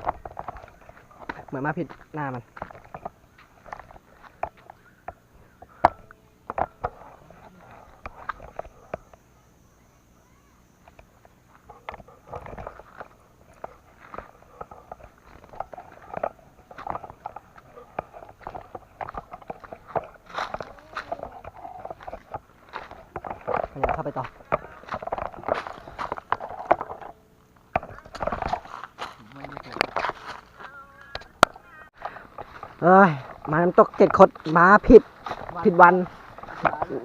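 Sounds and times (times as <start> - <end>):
footsteps on dry ground: 0.0 - 9.7, 10.7 - 37.0.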